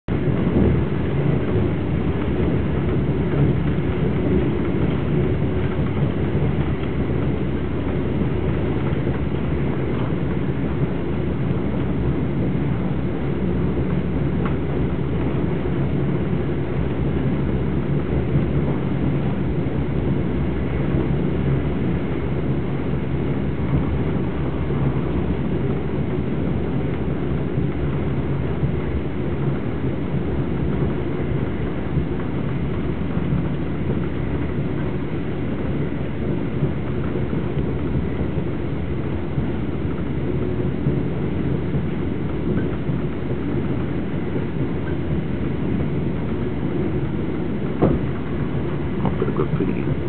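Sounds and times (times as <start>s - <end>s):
train wheels rumbling on rail: 0.1s - 50.0s.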